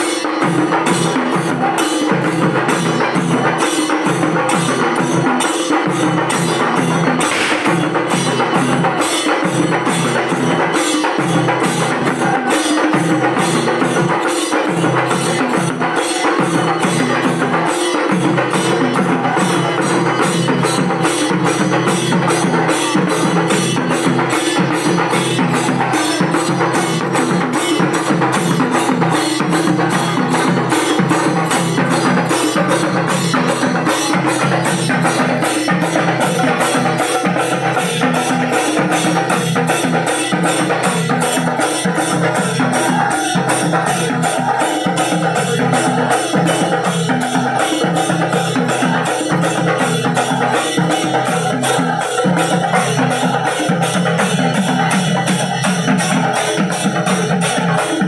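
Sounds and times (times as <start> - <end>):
drums and cymbals playing: 0.0 - 58.0.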